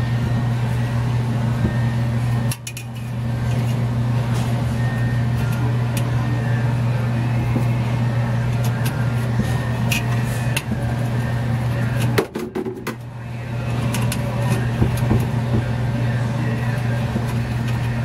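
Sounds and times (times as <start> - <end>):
electric motor hum: 0.0 - 12.2, 13.0 - 18.0.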